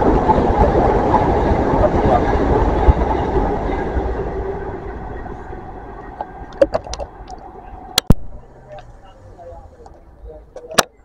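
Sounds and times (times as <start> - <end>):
train rumbling past: 0.0 - 10.3.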